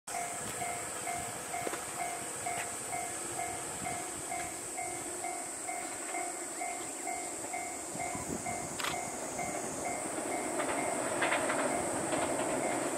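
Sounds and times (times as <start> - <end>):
level crossing bell ringing: 0.1 - 11.1
steady high hiss: 0.1 - 12.9.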